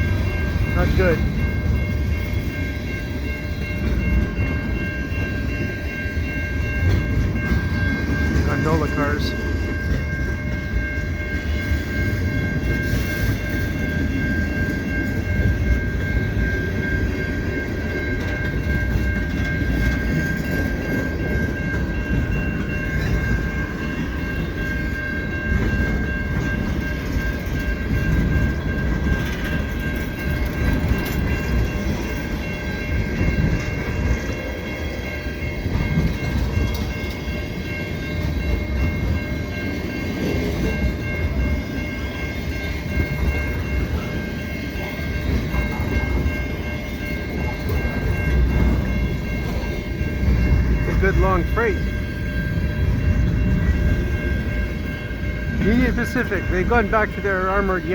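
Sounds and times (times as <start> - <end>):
freight train wheels clattering on rail: 0.0 - 57.9.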